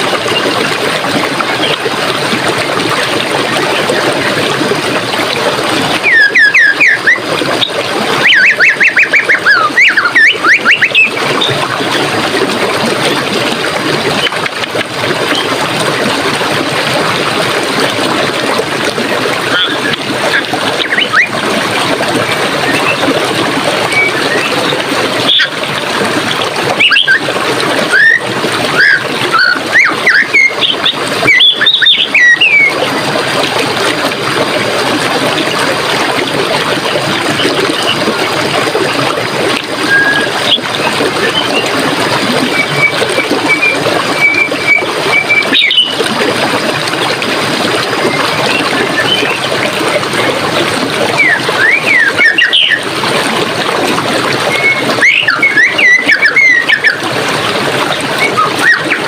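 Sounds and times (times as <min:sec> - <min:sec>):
forest stream running: 0:00.0 - 0:59.0.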